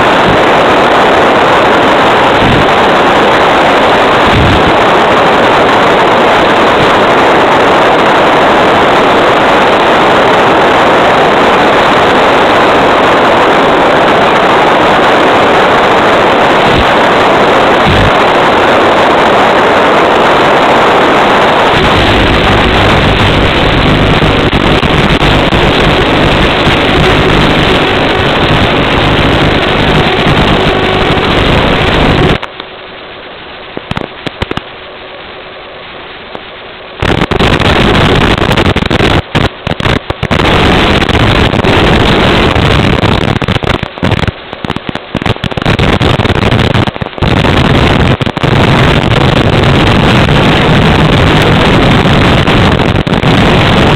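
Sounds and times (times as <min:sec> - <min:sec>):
wind rushing: 0:00.0 - 0:32.5, 0:37.0 - 0:53.9
radio static: 0:00.0 - 0:32.8, 0:33.6 - 0:35.3, 0:36.3 - 0:53.9.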